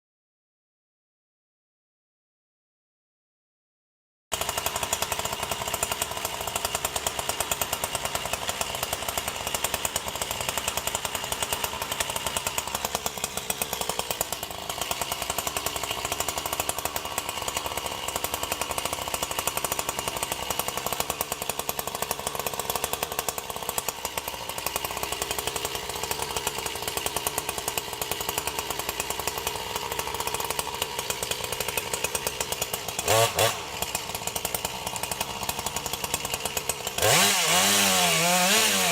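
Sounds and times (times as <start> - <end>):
two-stroke chainsaw running: 4.3 - 38.9.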